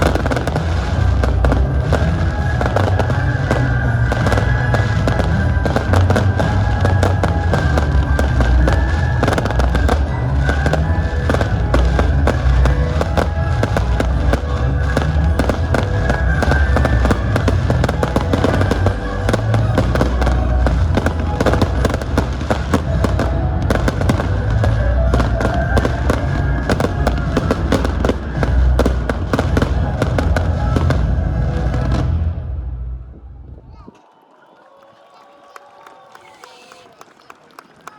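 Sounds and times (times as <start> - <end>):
fireworks cracks and booms: 0.0 - 32.6
loud background music: 0.0 - 32.9.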